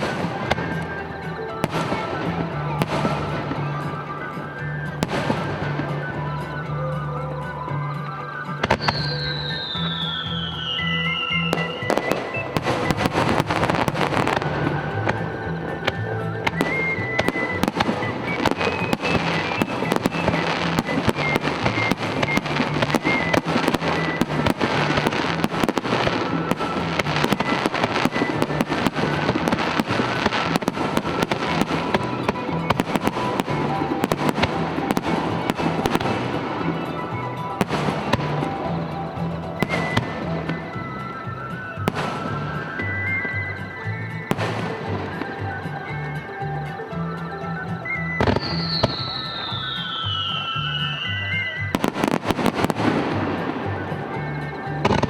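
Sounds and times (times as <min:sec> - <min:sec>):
fireworks bursting and crackling: 0:00.0 - 0:55.0
music playing: 0:00.0 - 0:55.0.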